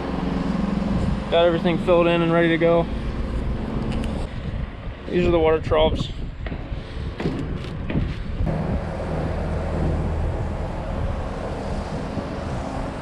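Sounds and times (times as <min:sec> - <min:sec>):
machinery rumble: 0:00.0 - 0:13.0
wind noise on microphone: 0:00.8 - 0:01.7, 0:03.0 - 0:13.0.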